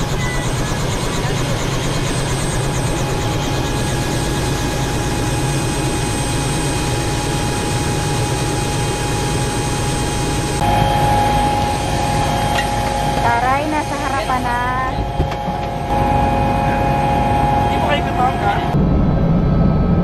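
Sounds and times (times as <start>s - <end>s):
helicopter engine and rotor running: 0.0s - 20.0s
steady tones inside cabin: 0.1s - 20.0s.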